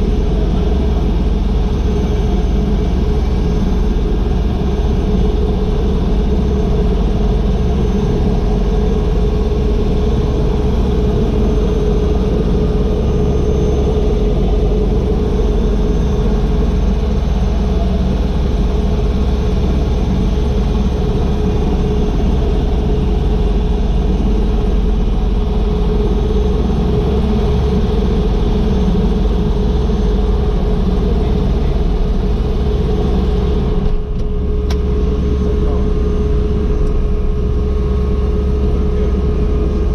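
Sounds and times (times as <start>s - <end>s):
helicopter engine whine and rumble: 0.0s - 39.9s.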